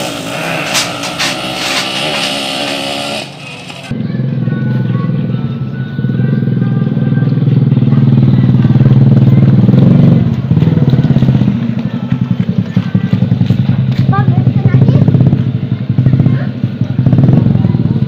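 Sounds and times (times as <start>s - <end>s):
two-stroke engine revving: 0.0s - 3.9s, 6.2s - 18.0s.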